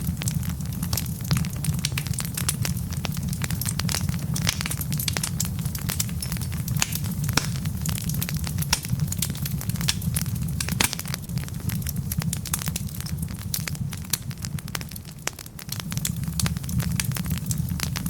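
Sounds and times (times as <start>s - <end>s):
low rumble of flame: 0.0s - 18.0s
wood fire crackling and popping: 0.0s - 18.0s.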